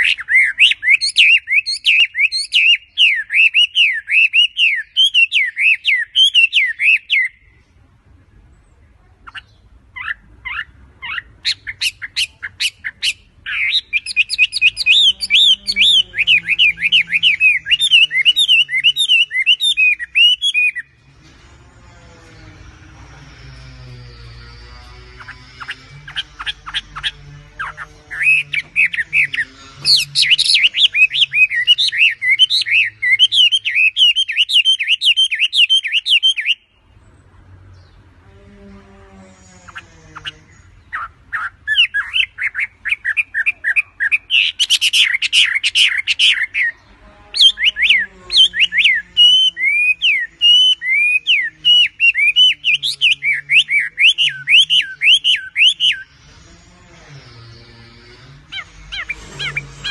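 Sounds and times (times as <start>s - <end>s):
bird singing gliding notes: 0.0s - 59.9s.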